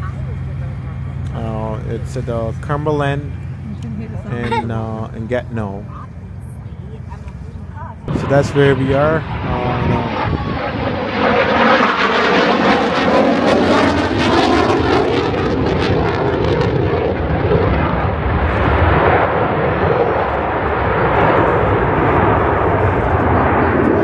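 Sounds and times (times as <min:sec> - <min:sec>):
airplane flying overhead: 0:00.0 - 0:24.0.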